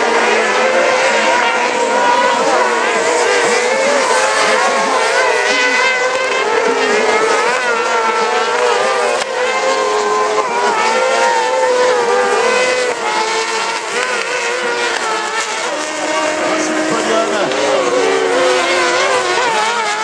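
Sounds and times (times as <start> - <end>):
racing kart engines revving: 0.0 - 20.0.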